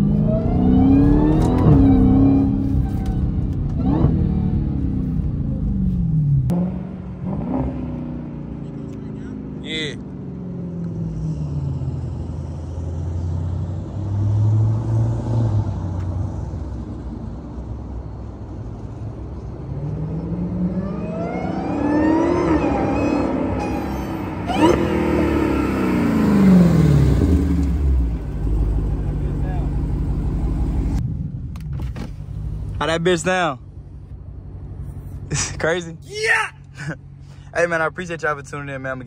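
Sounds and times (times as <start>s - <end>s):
car engine rumbling and revving: 0.0s - 39.0s.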